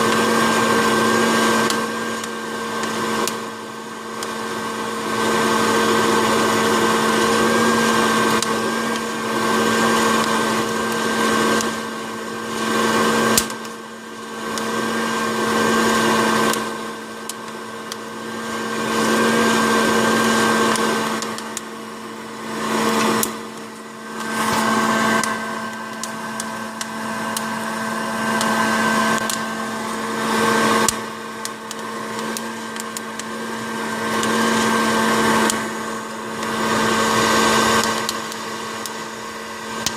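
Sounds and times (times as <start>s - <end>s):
fan motor humming: 2.0s - 39.9s.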